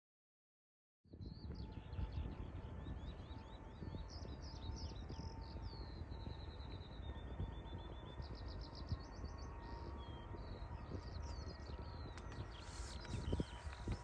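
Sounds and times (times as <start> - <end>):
songbirds chirping: 1.1 - 14.0
faint steady whine: 1.2 - 14.0
steady low rumble: 1.2 - 14.0.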